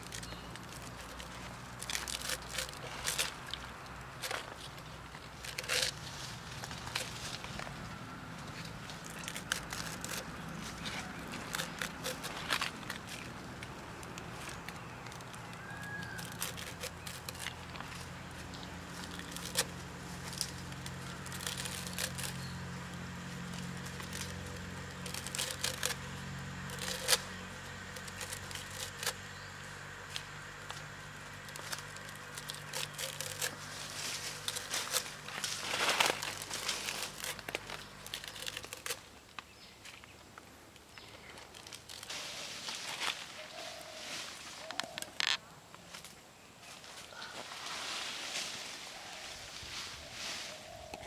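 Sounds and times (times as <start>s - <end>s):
leaves rustling and tearing: 0.0s - 51.0s.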